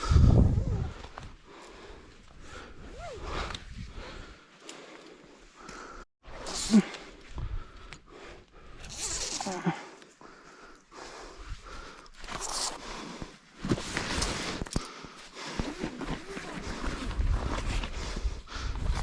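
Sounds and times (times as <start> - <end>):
person breathing hard: 0.0 - 8.9, 9.5 - 13.4, 14.2 - 19.0.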